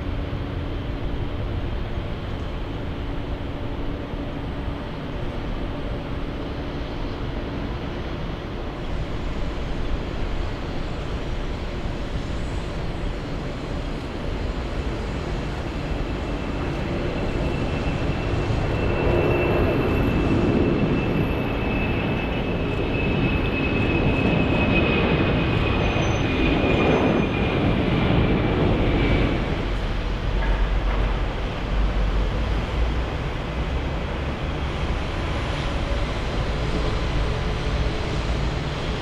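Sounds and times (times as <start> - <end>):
high engine whine: 0.0 - 39.0
jet airliner engines roaring: 0.0 - 39.0.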